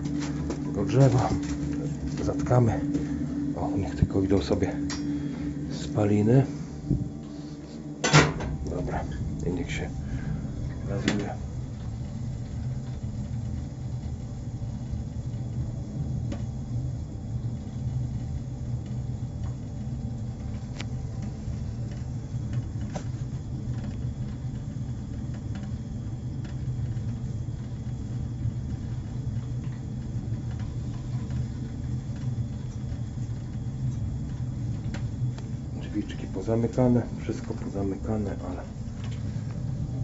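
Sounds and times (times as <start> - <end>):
boiler rumbling and humming: 0.0 - 40.0.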